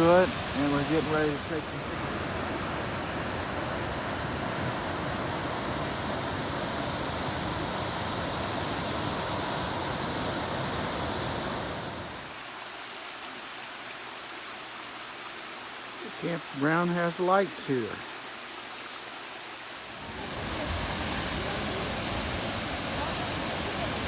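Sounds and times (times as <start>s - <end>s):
small waterfall rushing: 0.0s - 24.0s.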